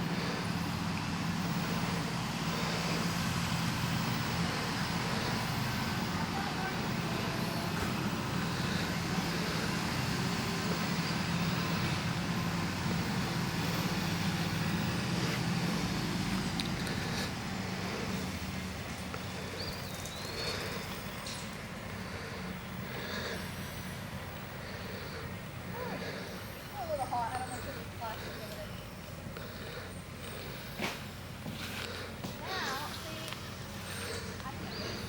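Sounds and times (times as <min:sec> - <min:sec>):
motor humming steadily: 0:00.0 - 0:35.0
outdoor noise hiss: 0:00.0 - 0:35.0.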